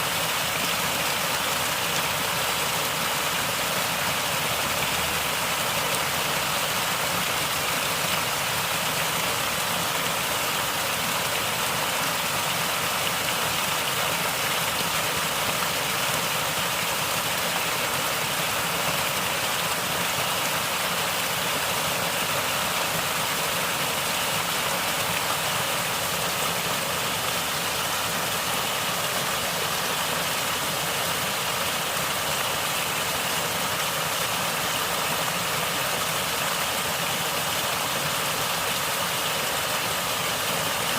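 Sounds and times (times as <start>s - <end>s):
stream water flowing and gurgling: 0.0s - 40.9s.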